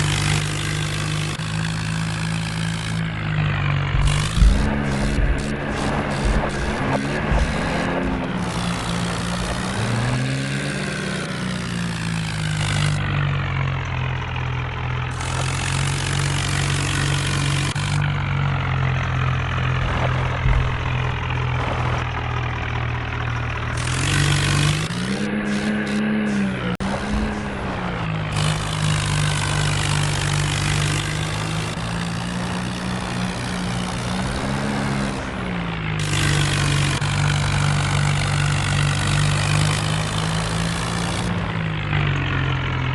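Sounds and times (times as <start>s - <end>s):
tractor diesel engines labouring: 0.0s - 42.9s.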